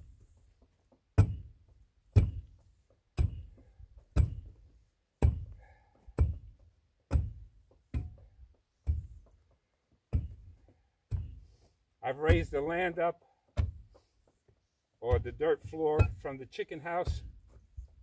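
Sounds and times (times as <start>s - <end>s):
dull heavy thuds: 0.0s - 14.4s, 15.0s - 18.0s.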